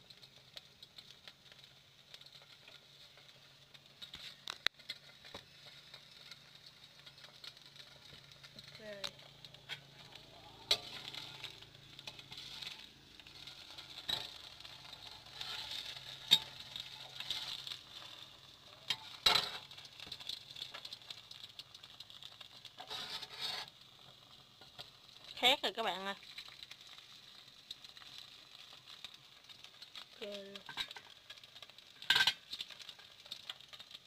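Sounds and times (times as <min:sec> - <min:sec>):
batter sizzling in oil: 0:00.0 - 0:34.0.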